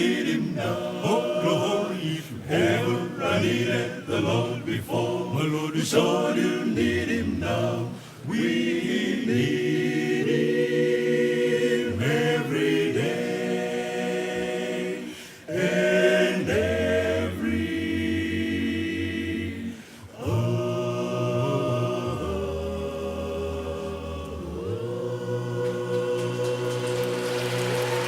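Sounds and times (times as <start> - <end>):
vocal group singing in harmony: 0.0 - 28.0.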